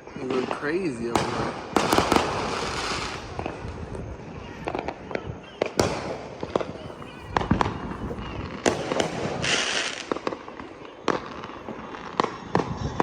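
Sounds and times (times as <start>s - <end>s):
distant fireworks rumble: 0.0s - 13.0s
fireworks sharp bangs: 0.0s - 13.0s.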